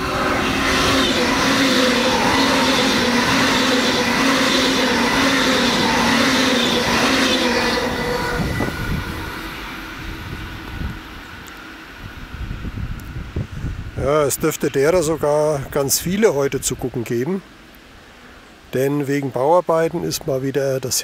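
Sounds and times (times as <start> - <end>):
high-speed train rushing past: 0.0 - 17.0
train whine: 0.0 - 18.6.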